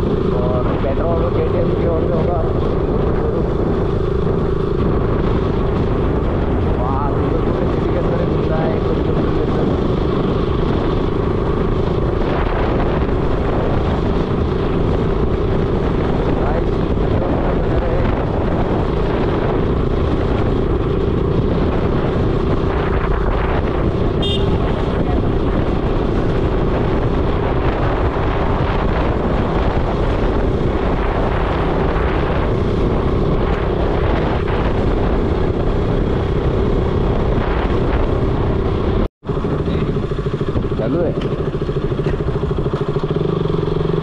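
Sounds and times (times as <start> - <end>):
motorcycle engine at steady speed: 0.0 - 44.0
wind noise on microphone: 0.0 - 44.0.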